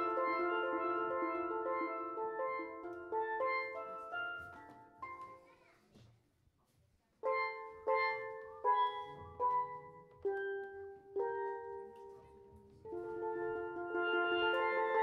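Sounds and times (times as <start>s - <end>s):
steelpan notes: 0.0s - 5.2s, 7.2s - 12.3s, 12.9s - 15.0s.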